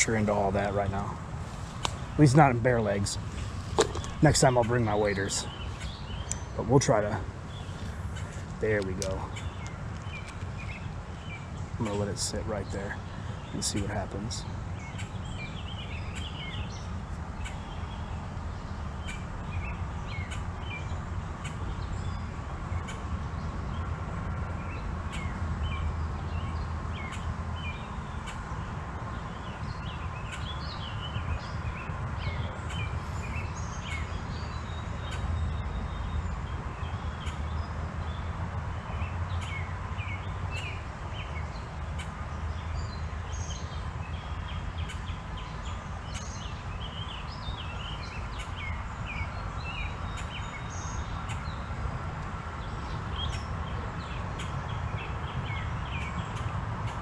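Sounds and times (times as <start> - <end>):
small birds chirping: 0.0 - 57.0
steady low rumble: 0.0 - 57.0.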